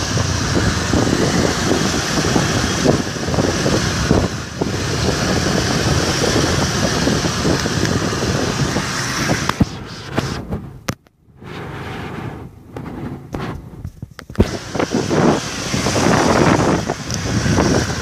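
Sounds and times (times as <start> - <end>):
scooter engine running: 0.0 - 10.9, 13.2 - 18.0
wind buffeting microphone: 0.0 - 18.0.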